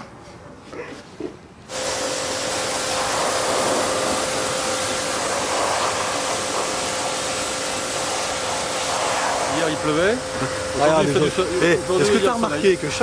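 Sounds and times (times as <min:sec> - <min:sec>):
motor hum: 0:01.7 - 0:13.0
pressure washer spray hissing: 0:01.7 - 0:13.0.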